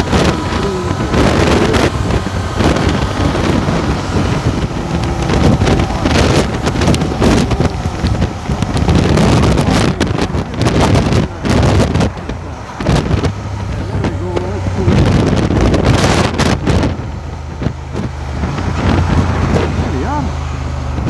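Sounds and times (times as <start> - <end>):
motorcycle engine rumble: 0.0 - 21.0
wind buffeting microphone: 0.0 - 21.0.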